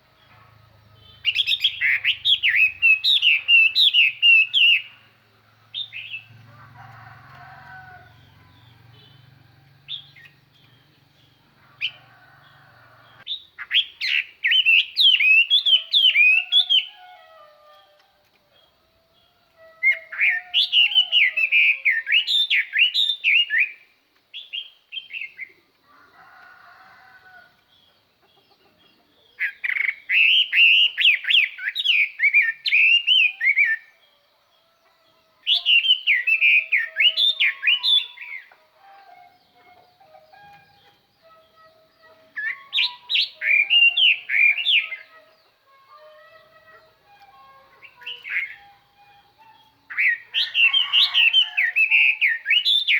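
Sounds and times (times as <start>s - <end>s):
bird singing whistled notes: 1.0s - 6.4s, 7.5s - 25.6s, 29.2s - 52.9s.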